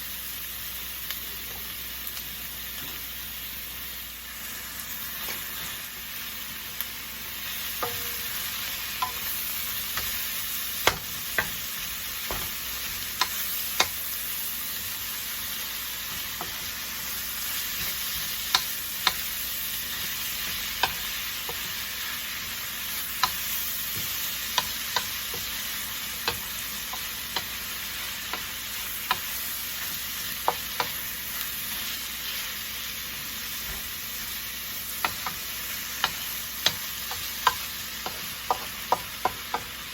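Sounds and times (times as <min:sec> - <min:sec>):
chicken sizzling in frying pan: 0:00.0 - 0:39.9.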